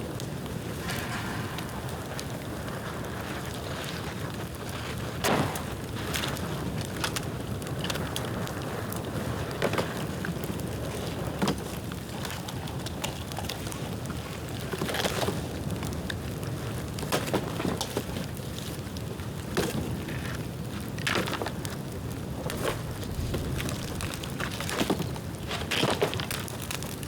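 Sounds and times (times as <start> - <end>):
bonfire flames rushing: 0.0 - 27.0
bamboo crackling and popping: 0.8 - 27.0.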